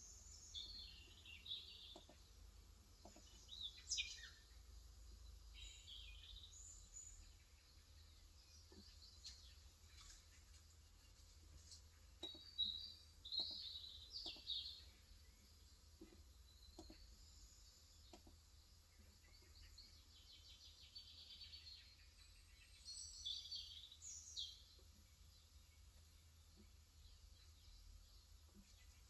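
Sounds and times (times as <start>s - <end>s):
faint bird chirps: 3.0s - 29.0s.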